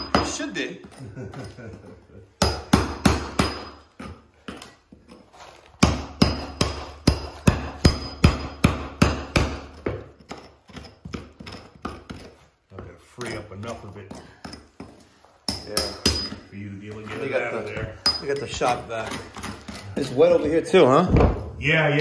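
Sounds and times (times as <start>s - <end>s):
hammer striking chisel: 0.0s - 1.4s, 2.4s - 5.2s, 5.8s - 16.5s, 17.1s - 20.5s.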